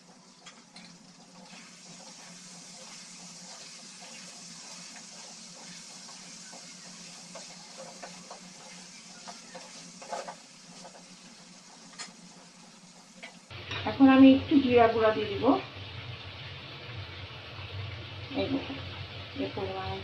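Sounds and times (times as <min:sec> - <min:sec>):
spices sizzling in a pan: 0:00.0 - 0:20.0.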